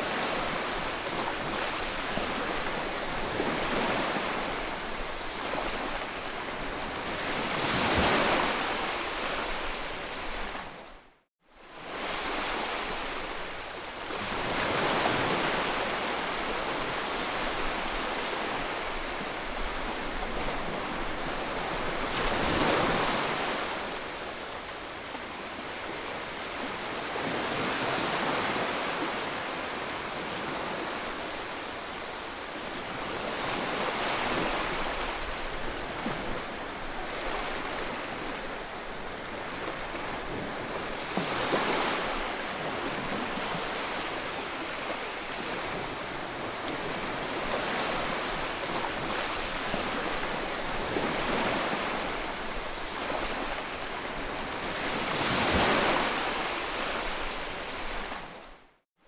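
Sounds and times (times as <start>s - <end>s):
sea waves breaking on shore: 0.0s - 58.8s.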